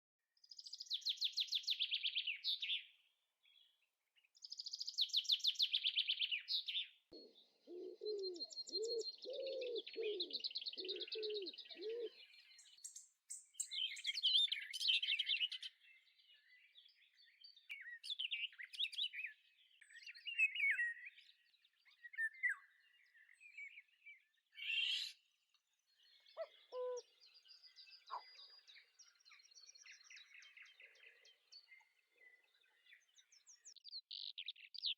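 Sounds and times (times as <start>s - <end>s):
birds chirping and singing: 4.4s - 34.9s.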